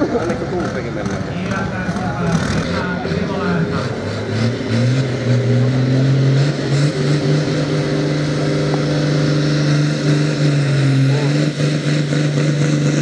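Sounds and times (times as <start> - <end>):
tractor engine at high revs: 0.0 - 13.0.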